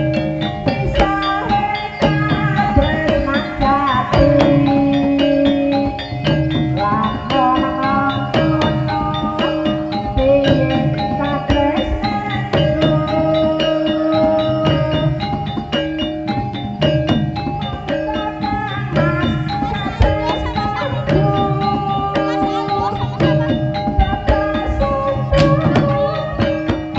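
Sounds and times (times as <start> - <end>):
hand drums beating: 0.0 - 26.9
struck metallophone notes: 0.0 - 26.9.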